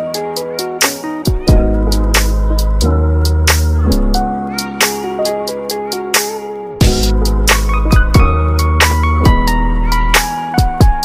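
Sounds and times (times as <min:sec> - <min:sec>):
electronic beat music: 0:00.0 - 0:11.0.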